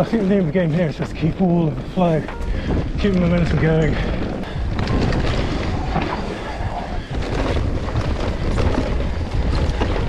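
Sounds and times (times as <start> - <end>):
bike tyres rumbling on trail: 0.0 - 10.0
wind buffeting microphone: 0.0 - 10.0
bike knocks and rattles: 1.0 - 6.4, 7.0 - 10.0.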